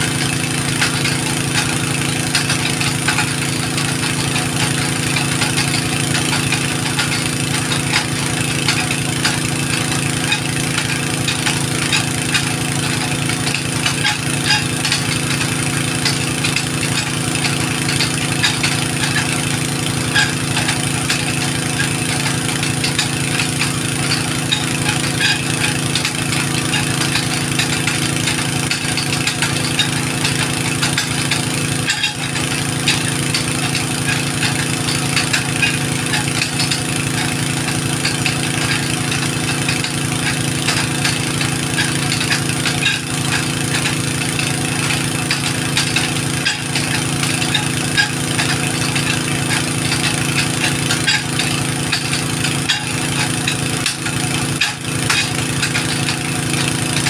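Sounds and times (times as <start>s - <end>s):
dense fine rattle: 0.0s - 57.0s
engine running steadily: 0.0s - 57.0s.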